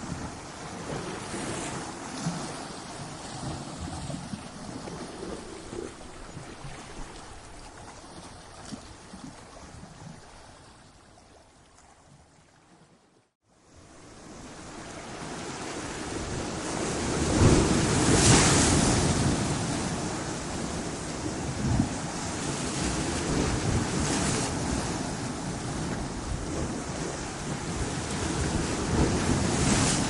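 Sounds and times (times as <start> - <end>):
ocean waves breaking on rocks: 0.0 - 9.0, 14.0 - 30.0.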